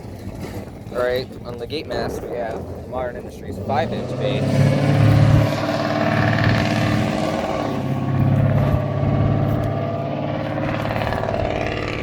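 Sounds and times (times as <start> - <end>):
vehicle engine humming: 0.6 - 12.0.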